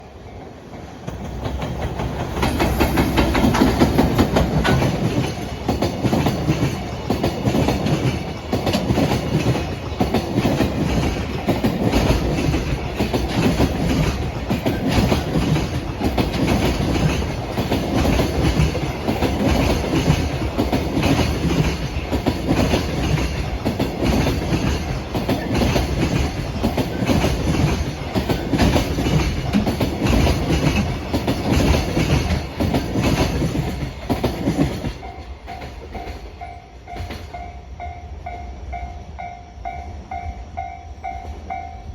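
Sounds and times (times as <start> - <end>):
freight train passing: 0.0 - 41.9
wheels clicking over rail joints: 0.9 - 37.5.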